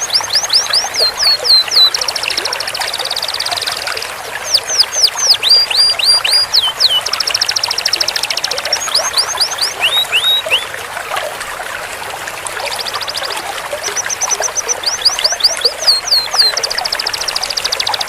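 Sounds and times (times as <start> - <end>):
canary singing: 0.0 - 3.8, 4.4 - 10.7, 12.6 - 18.0.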